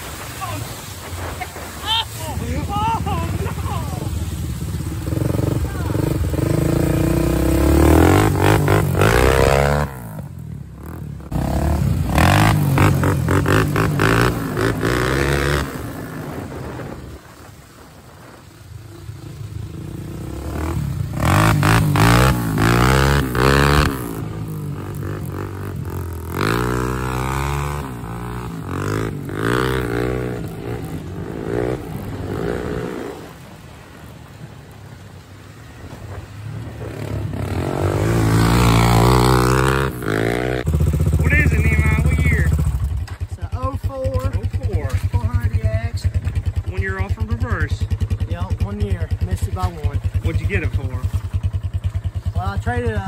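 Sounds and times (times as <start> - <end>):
atv engine revving: 1.9 - 17.0, 18.5 - 33.9, 36.2 - 53.0.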